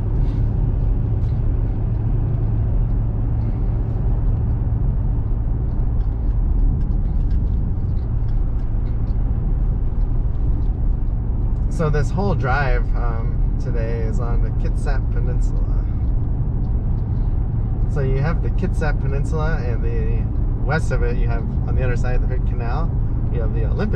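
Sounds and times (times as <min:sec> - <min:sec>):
truck engine and tyre drone: 0:00.0 - 0:23.9.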